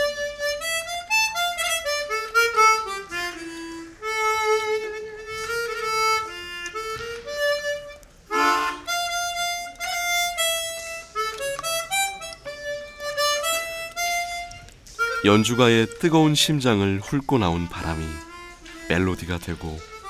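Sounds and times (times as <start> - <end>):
harmonica playing slow melody: 0.0 - 20.0.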